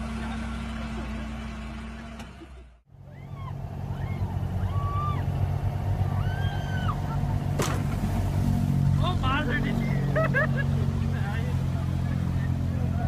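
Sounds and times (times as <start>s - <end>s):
motor rumbling: 0.0s - 13.0s.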